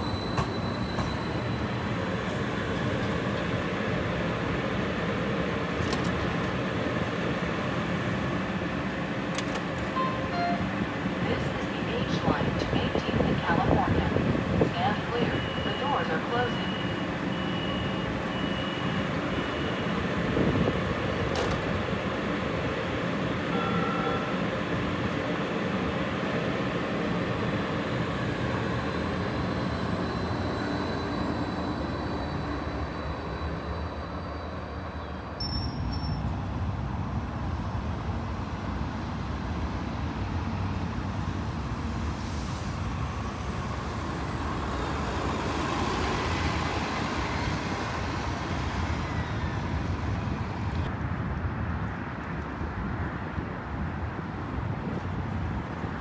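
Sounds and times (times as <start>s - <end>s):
bus running: 0.0s - 56.0s
light rail train passing: 0.0s - 56.0s
road traffic: 0.0s - 56.0s.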